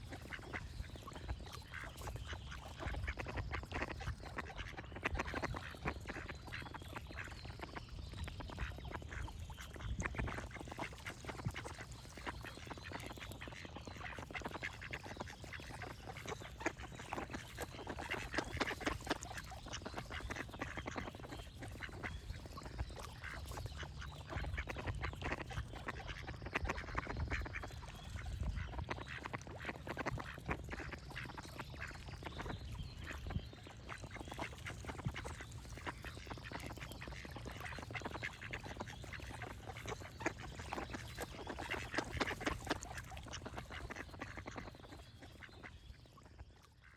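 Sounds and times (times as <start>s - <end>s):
ducks quacking: 0.0s - 46.0s
birds singing faintly: 0.0s - 46.9s.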